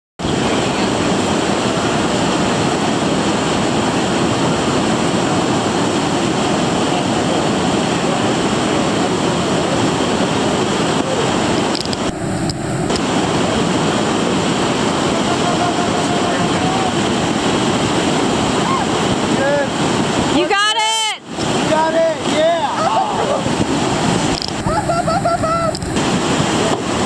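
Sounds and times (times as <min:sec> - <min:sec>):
whitewater rapids rushing: 0:00.2 - 0:27.0.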